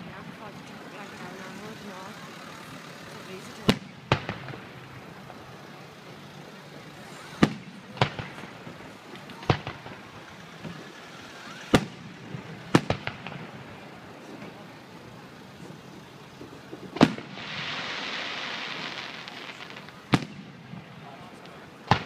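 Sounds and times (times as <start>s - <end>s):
fireworks bangs: 0.0s - 22.0s
low background noise: 0.0s - 22.0s.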